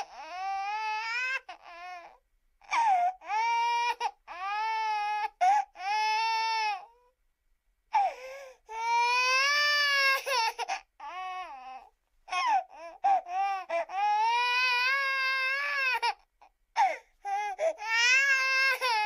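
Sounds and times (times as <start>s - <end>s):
baby crying: 0.0s - 7.1s, 7.9s - 19.0s.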